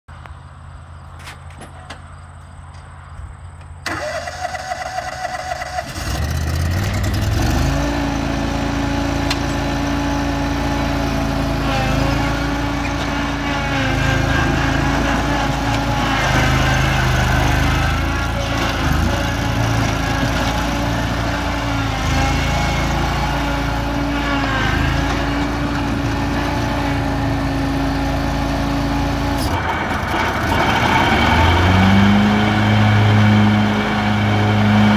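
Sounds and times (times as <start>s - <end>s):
mower engine running: 3.8s - 34.9s.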